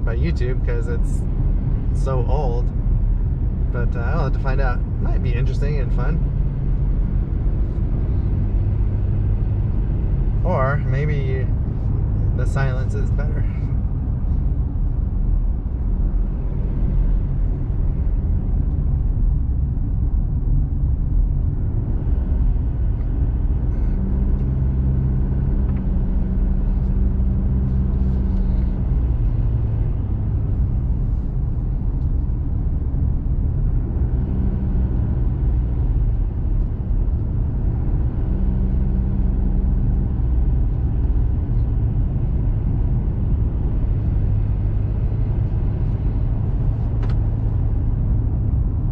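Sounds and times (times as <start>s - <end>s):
vehicle engine and tyre rumble: 0.0s - 48.9s.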